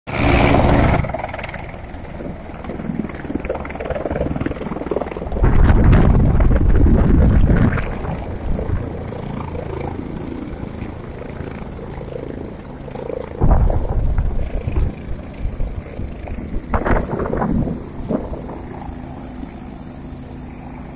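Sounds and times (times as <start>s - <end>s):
helicopter rotor and turbine: 0.1s - 20.9s.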